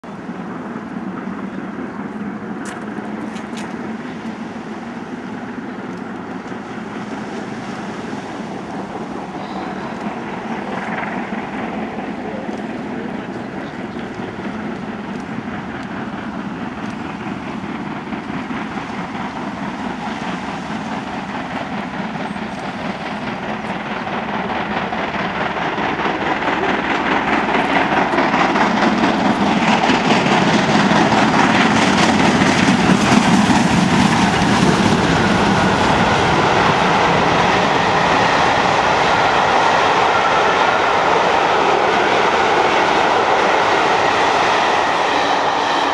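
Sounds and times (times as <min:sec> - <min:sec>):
steam locomotives working: 0:00.0 - 0:45.9
train coaches rolling past: 0:00.0 - 0:45.9.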